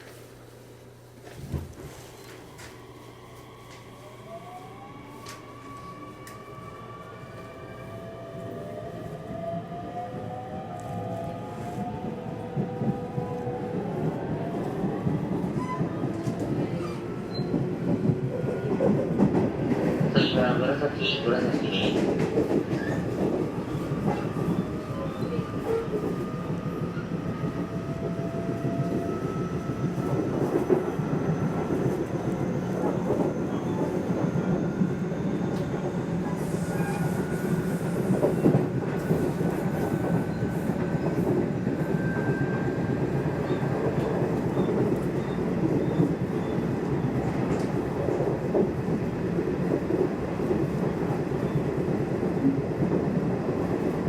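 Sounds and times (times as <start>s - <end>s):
train wheels rumbling on rails: 10.7s - 54.0s.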